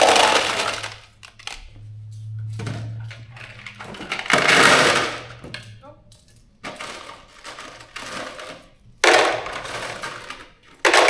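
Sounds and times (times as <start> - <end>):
bolts and nuts clattering: 0.0 - 11.0.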